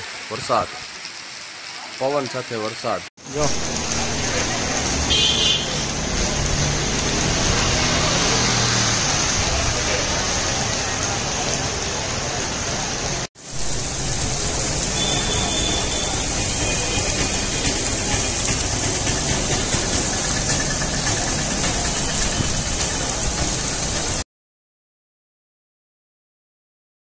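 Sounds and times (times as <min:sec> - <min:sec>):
heavy rain hiss: 0:00.0 - 0:24.2.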